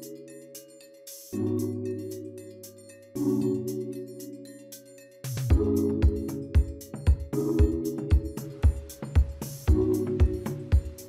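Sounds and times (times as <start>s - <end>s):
ticking beat: 0.0s - 11.0s
synth chords: 1.3s - 11.0s.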